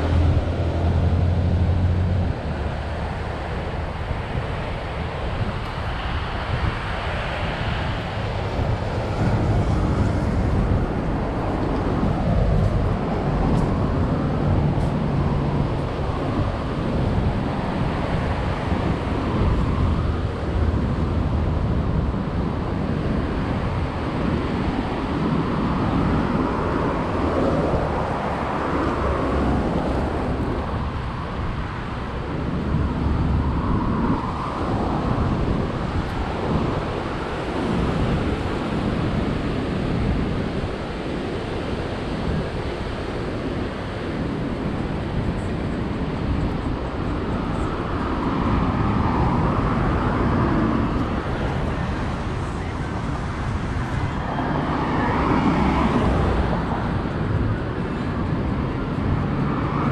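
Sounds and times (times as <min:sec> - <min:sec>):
ocean surf: 0:00.0 - 0:59.9
passing road traffic: 0:00.0 - 0:59.9
wind on microphone: 0:00.0 - 0:59.9.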